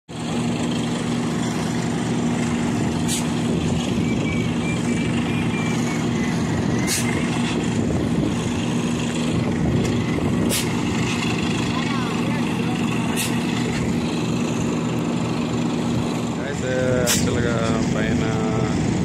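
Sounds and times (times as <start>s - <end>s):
engine running steadily: 0.1s - 19.0s.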